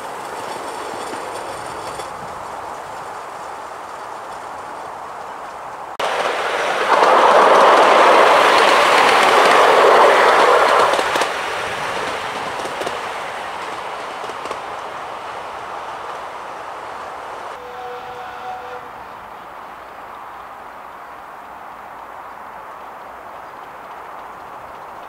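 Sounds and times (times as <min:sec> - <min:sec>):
miniature train wheels rumbling on rails: 0:00.0 - 0:16.3, 0:19.3 - 0:25.0.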